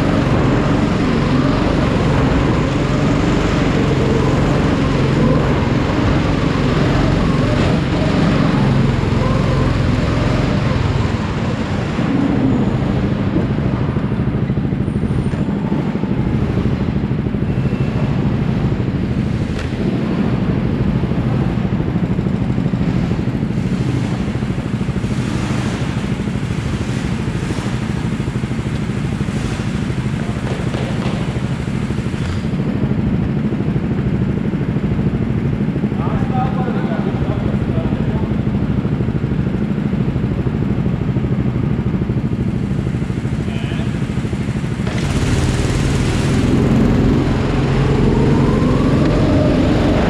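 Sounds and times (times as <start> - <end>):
go-kart engine running: 0.0 - 50.0.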